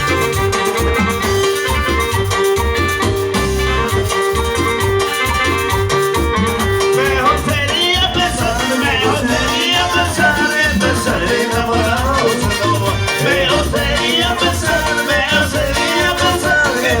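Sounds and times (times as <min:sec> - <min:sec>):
bending lead melody: 0:00.0 - 0:17.0
latin band instrumental music: 0:00.0 - 0:17.0
steady bass beat: 0:00.0 - 0:17.0.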